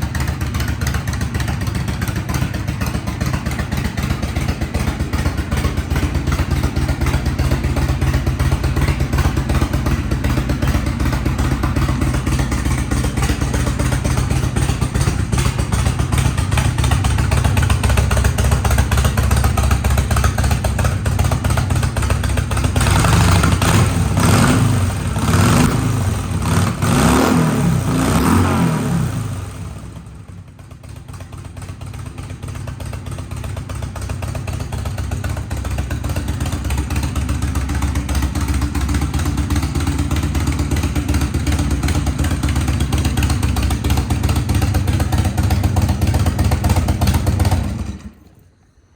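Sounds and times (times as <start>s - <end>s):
motorcycle engine idling: 0.0s - 27.0s, 29.1s - 48.9s.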